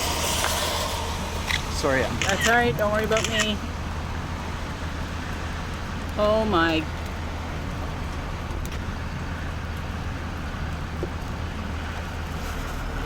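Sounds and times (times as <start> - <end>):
car engine idling: 0.0 - 13.0
wind hiss: 0.0 - 13.0.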